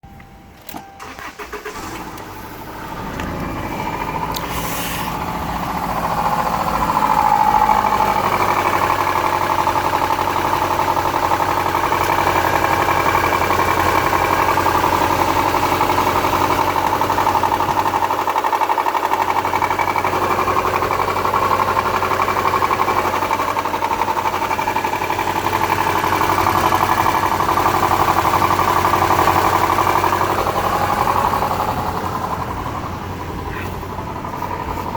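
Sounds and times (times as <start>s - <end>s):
engine running with rhythmic knock: 2.0s - 34.9s.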